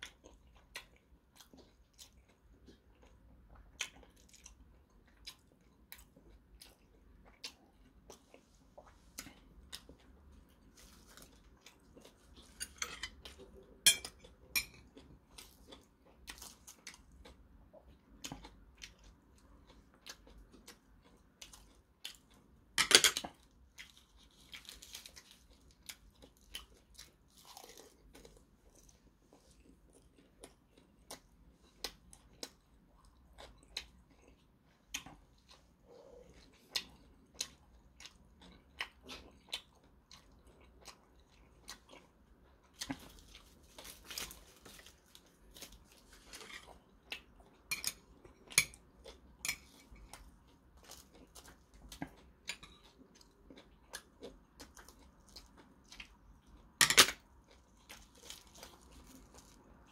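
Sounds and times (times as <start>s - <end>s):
man chewing food: 0.0s - 59.9s.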